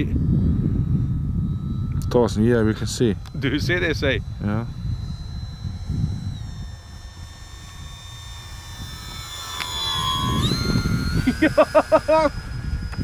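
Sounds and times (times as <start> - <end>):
model plane motor whine: 0.0 - 13.0
wind buffeting microphone: 0.0 - 13.0.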